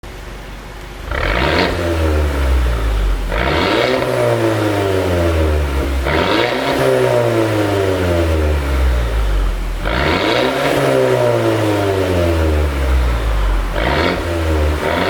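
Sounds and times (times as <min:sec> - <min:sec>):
car engine idling and revving: 0:00.4 - 0:15.0.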